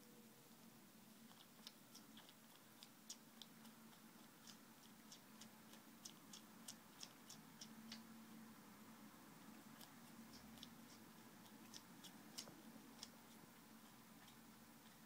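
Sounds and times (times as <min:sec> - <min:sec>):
cat sucking on its paw: 0:00.6 - 0:15.0.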